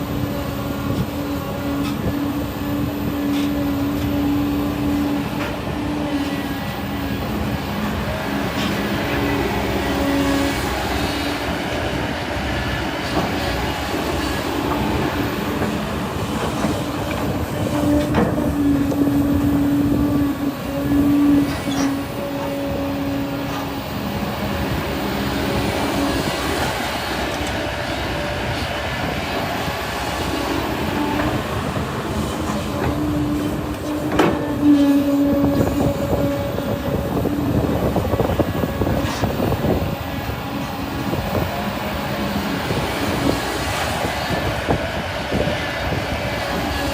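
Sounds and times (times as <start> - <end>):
excavator diesel engine working: 0.0 - 46.9.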